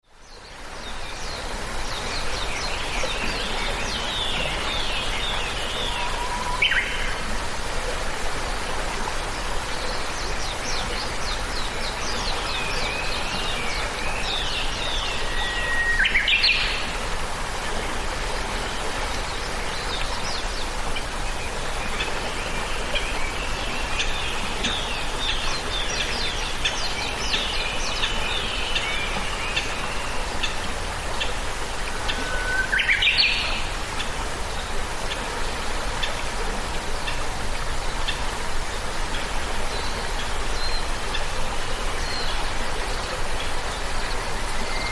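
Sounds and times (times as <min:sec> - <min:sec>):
steady background hiss: 0:00.1 - 0:44.9.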